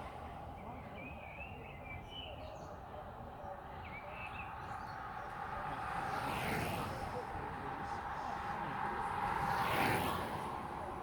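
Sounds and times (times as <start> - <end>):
low wind: 0.0 - 11.0
road rumble: 0.0 - 11.0.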